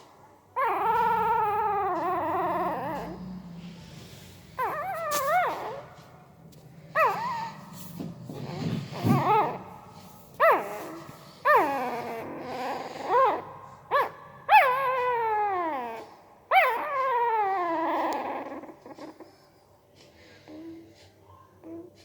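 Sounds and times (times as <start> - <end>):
puppy whimpering: 0.6 - 6.3, 6.9 - 19.6, 21.6 - 22.0.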